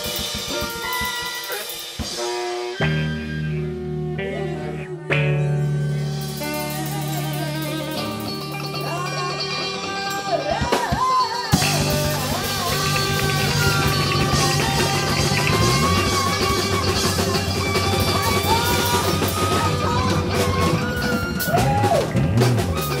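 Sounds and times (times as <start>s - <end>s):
trumpet: 0.0s - 3.9s, 6.1s - 23.0s
drum kit: 0.0s - 4.2s, 6.0s - 23.0s
electric guitar: 0.0s - 23.0s
tenor saxophone: 0.0s - 23.0s
steady bass line: 2.8s - 10.5s, 11.5s - 23.0s.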